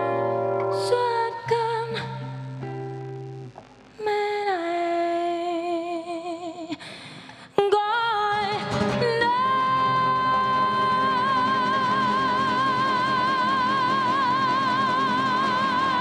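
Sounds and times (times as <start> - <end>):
woman singing with vibrato: 0.8 - 2.7, 4.0 - 16.0.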